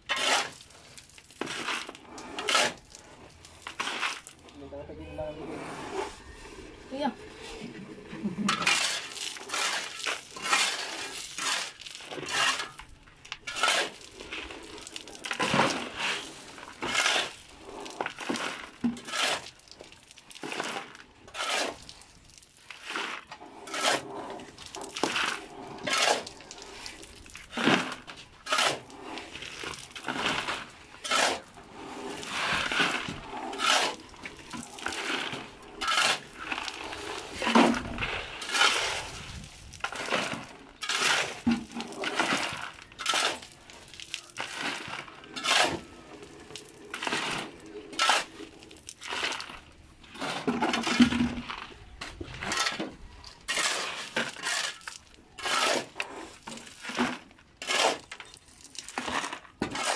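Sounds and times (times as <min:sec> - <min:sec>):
gravel rattling into plastic buckets: 0:00.0 - 0:04.8, 0:06.9 - 0:59.9
shovel scraping concrete floor: 0:00.0 - 0:59.9.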